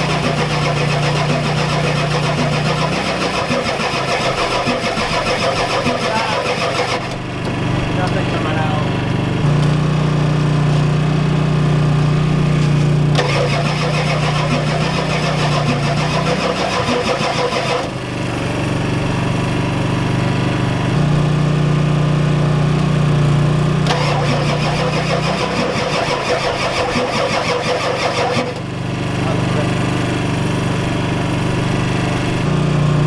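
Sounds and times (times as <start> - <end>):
diesel engine cranking: 0.0 - 21.4, 22.7 - 33.0.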